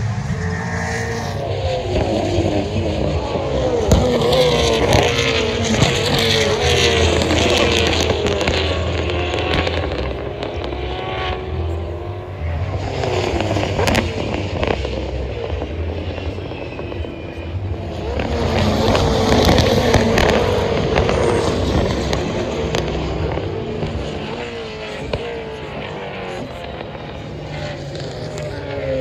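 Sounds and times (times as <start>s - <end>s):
race cars passing at speed: 0.0s - 29.0s.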